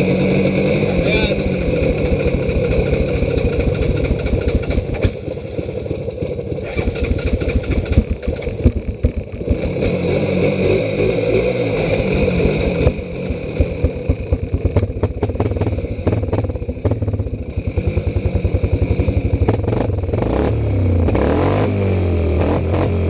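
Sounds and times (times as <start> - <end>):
atv engine chugging and revving: 0.0 - 23.0.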